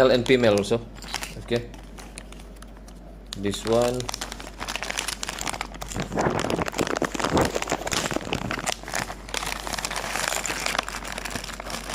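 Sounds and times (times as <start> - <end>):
packaging crinkling and rustling: 0.0 - 11.9.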